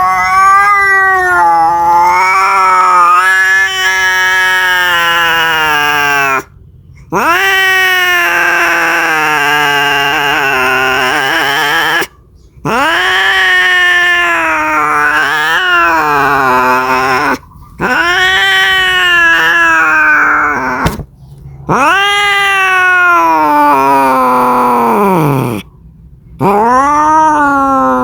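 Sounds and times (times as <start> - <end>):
cat yowling: 0.0 - 6.5, 7.1 - 21.1, 21.7 - 25.7, 26.4 - 28.0.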